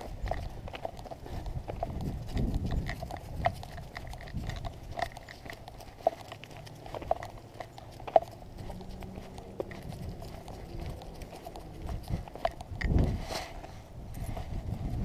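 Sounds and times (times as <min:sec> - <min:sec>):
footsteps on dry grass: 0:00.0 - 0:15.0.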